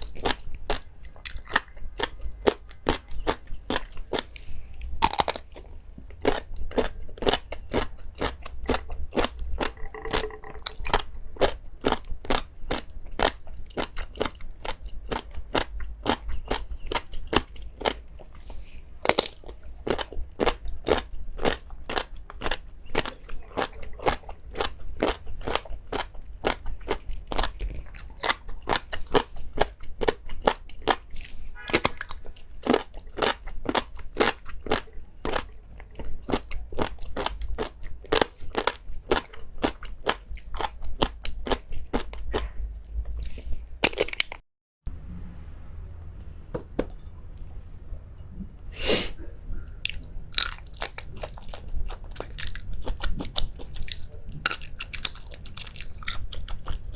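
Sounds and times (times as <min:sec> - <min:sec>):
person chewing crisp food: 0:00.0 - 0:44.4, 0:48.8 - 0:56.9.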